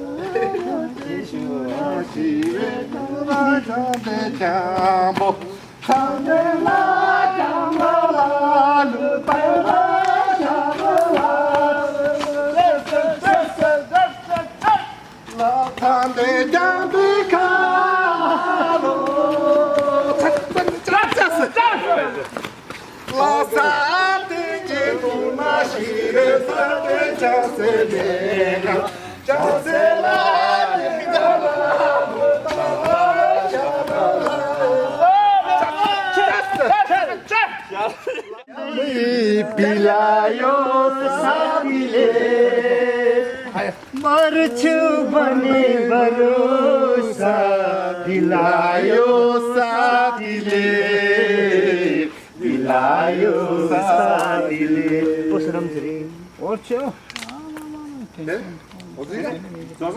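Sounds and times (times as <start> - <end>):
group of people singing: 0.0 - 22.0, 23.0 - 37.1, 38.4 - 56.4.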